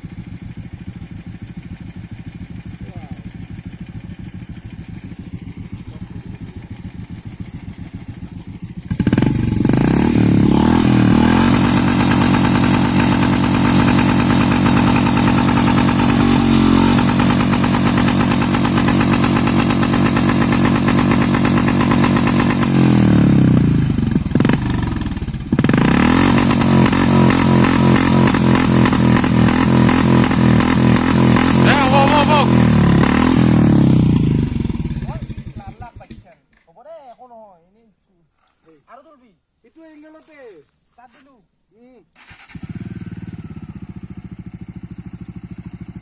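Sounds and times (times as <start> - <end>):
motorcycle engine revving: 0.0 - 36.3, 42.2 - 46.0.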